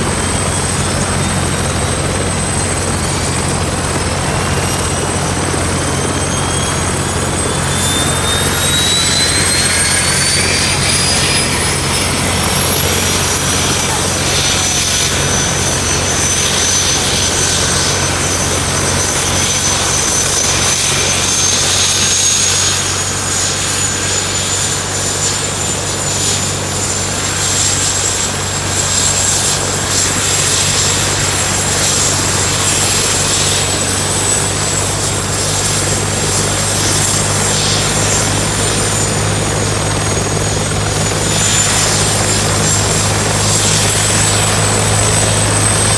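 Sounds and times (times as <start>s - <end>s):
helicopter turbine whine: 0.0s - 45.9s
low drone: 0.0s - 45.9s.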